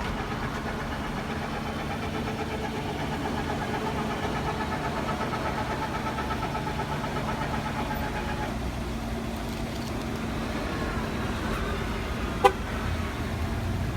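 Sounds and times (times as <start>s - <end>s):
truck engine idling: 0.0s - 13.9s.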